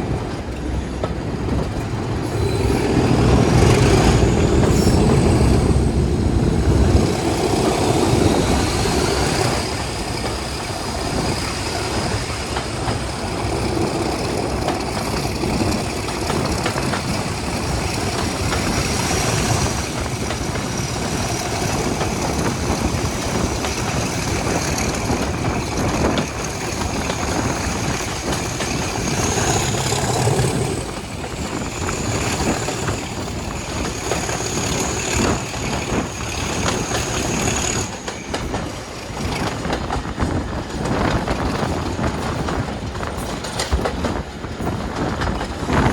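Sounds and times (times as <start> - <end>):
diesel locomotive engine: 0.0 - 45.9
wheels rattling on rails: 0.0 - 45.9.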